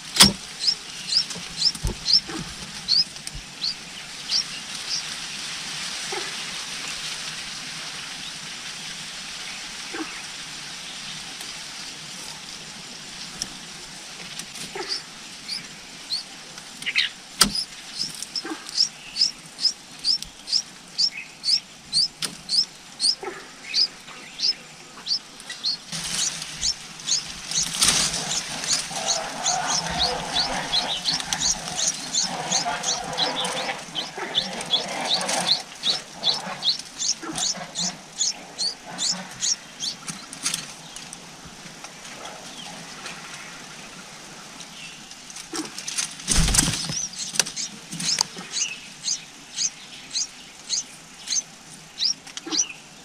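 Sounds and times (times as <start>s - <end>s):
nestling birds chirping: 0.0s - 7.0s, 13.1s - 43.9s, 44.7s - 53.0s
leaves rustling: 0.0s - 53.0s.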